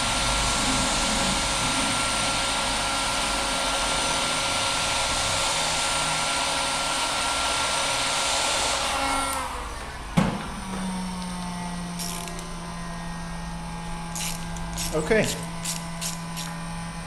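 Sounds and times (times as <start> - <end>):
heat gun blowing with fan whine: 0.0 - 17.0.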